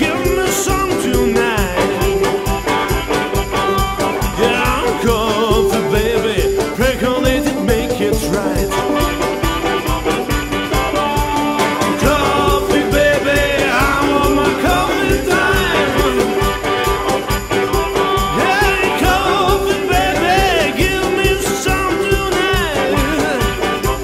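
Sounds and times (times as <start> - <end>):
acoustic blues-rock band: 0.0 - 24.0
gliding lead guitar line: 0.0 - 24.0
jingling percussion: 0.0 - 24.0.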